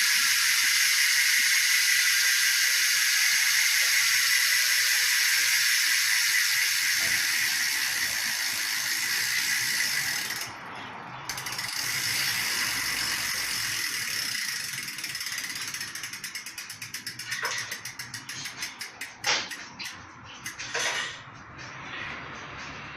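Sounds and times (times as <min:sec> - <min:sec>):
bicycle hub clicking: 0:00.0 - 0:20.8.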